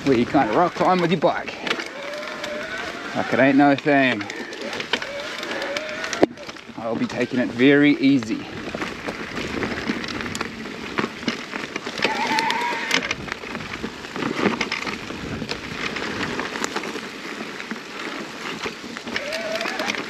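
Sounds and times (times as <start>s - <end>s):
bike clicks and rattles: 0.0s - 20.0s
tyres crunching on stones: 0.0s - 20.0s.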